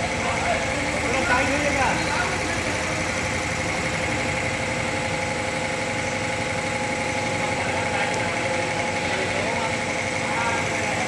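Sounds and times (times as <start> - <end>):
high machine whine: 0.0 - 11.0
mechanical hum: 0.0 - 11.0.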